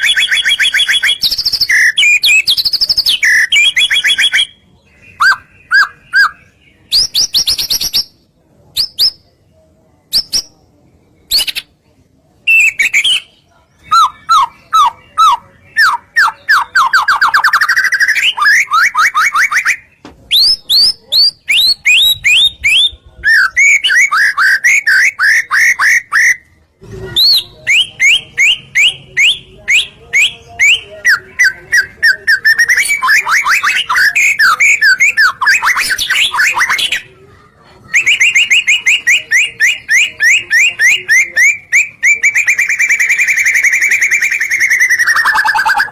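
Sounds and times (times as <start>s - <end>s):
songbird whistling and trilling: 0.0s - 8.2s, 12.4s - 26.4s, 27.2s - 37.0s, 37.9s - 45.9s.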